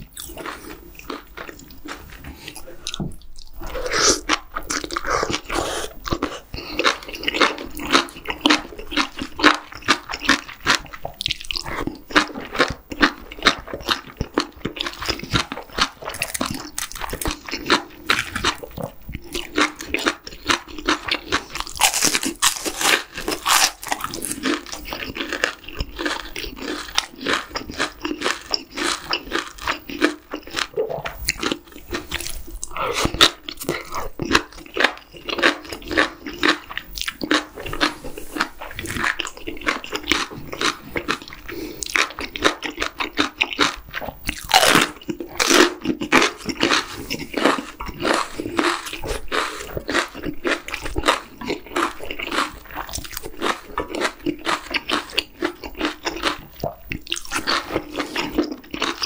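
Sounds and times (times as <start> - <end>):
crisp crunching of fried food: 0.0 - 59.0
soft wet chewing: 0.0 - 59.0.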